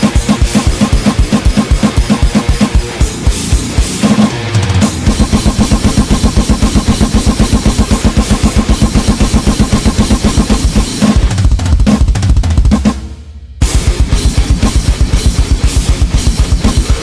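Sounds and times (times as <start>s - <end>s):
loud music with fast drum beat: 0.0s - 17.0s.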